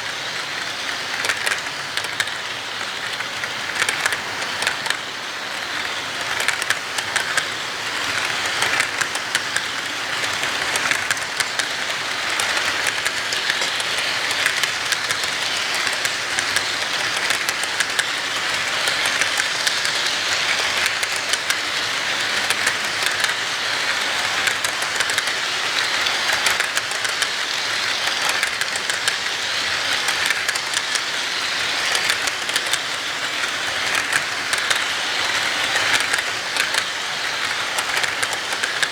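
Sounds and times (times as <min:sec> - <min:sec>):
train wheels clicking on rails: 0:00.0 - 0:38.9.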